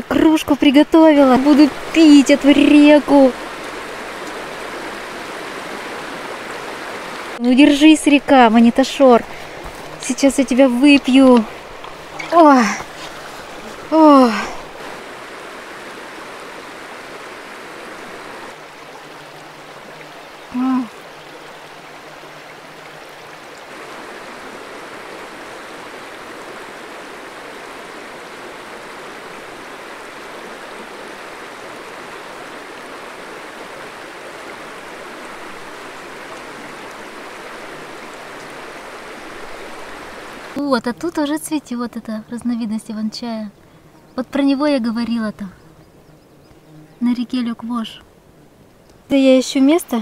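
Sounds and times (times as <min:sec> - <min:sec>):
stream rushing and babbling: 0:00.0 - 0:50.0.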